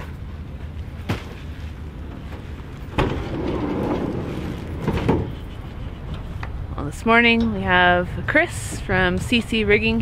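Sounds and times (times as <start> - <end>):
hand cart rolling on asphalt: 0.0 - 10.0
steady low rumble: 0.0 - 10.0.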